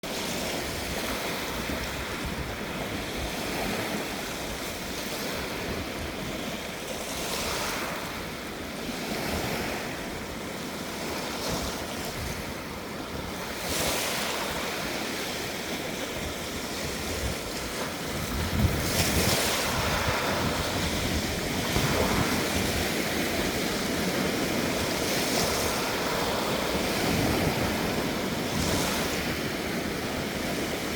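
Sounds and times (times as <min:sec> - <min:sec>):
waves breaking on shore: 0:00.0 - 0:30.9.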